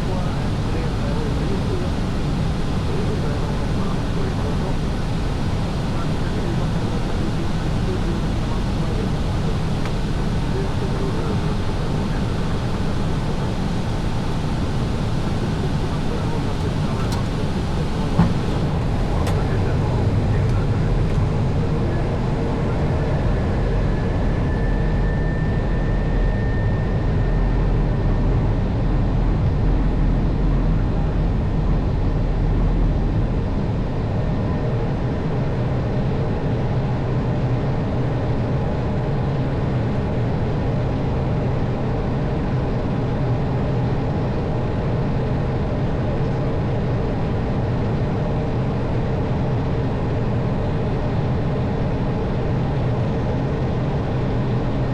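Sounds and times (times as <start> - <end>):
jet engines: 0.0 - 54.9.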